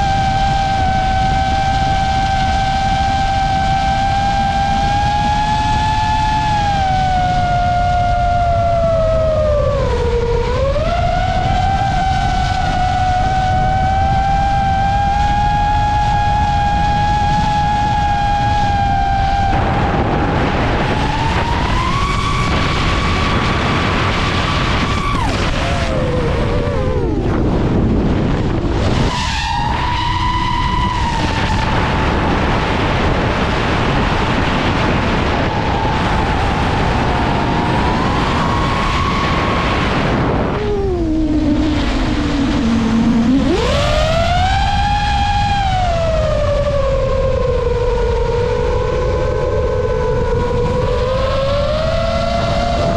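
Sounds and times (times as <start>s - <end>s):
drone motors whining: 0.0s - 52.9s
steady rushing noise: 0.0s - 52.9s.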